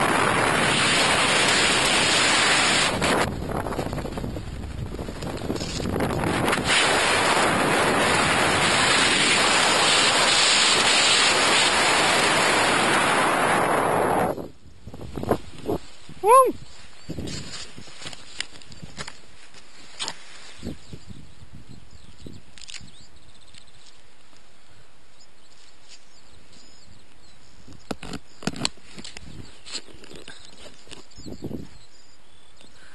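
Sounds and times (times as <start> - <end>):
wind rushing over microphone: 0.0 - 19.2, 20.1 - 23.4, 26.1 - 32.1.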